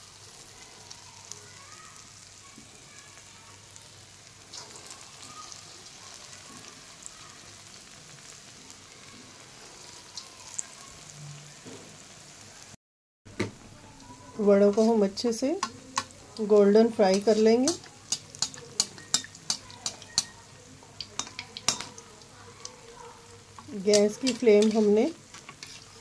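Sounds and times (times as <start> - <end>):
fritters deep-frying in hot oil: 0.0 - 26.0.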